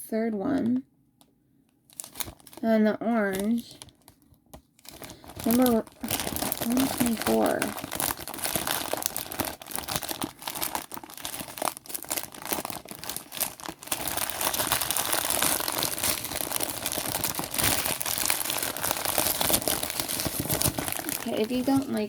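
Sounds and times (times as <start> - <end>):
plastic packaging crinkling: 1.8 - 22.0.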